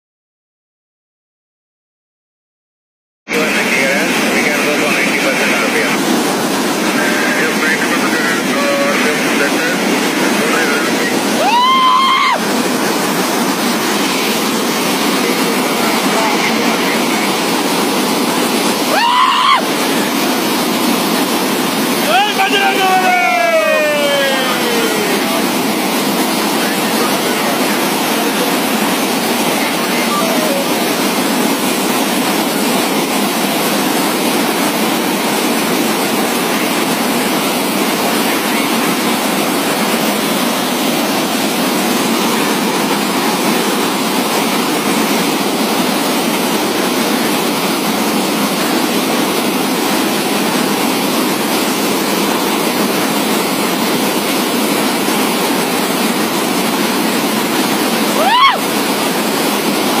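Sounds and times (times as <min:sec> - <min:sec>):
water gushing into a canal: 0:03.3 - 1:00.0.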